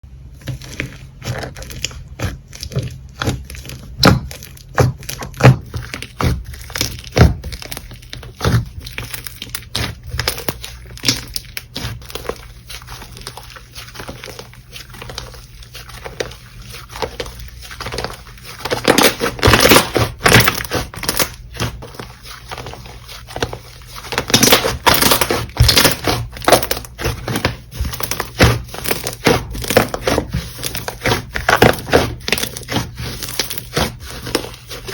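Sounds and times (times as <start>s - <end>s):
slime squished by hand: 0.2s - 34.9s.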